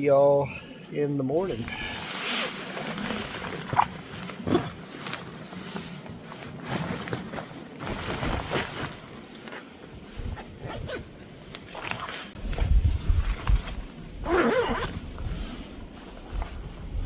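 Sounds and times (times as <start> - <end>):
fabric rustling and crinkling: 2.0 - 17.0.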